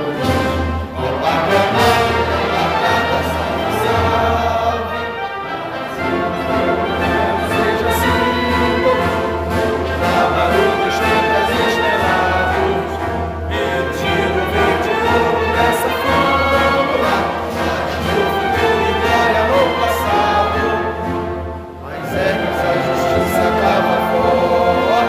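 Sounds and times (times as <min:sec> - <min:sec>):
choir singing sustained notes: 0:00.0 - 0:25.0
orchestral music: 0:00.0 - 0:25.0.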